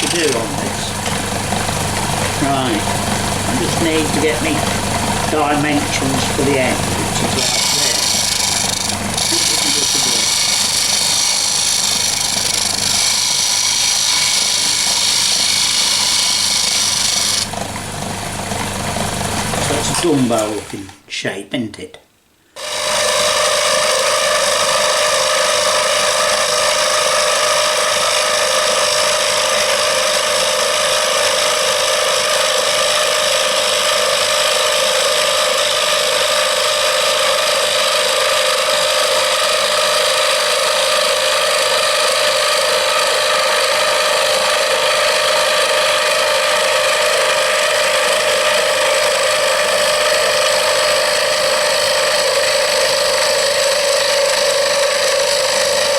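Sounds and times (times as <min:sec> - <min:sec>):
wood lathe whine: 0:00.0 - 0:20.9, 0:22.6 - 0:55.9.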